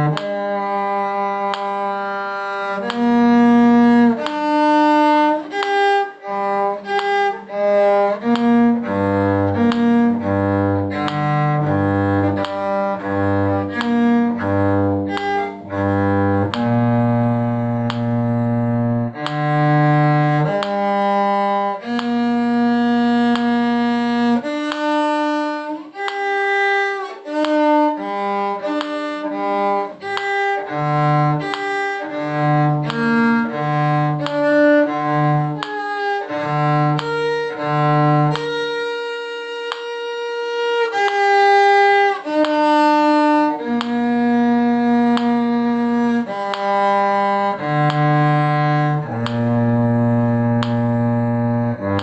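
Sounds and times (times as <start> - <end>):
lower bowed string instrument: 0.0 - 52.0
violin playing: 0.0 - 52.0.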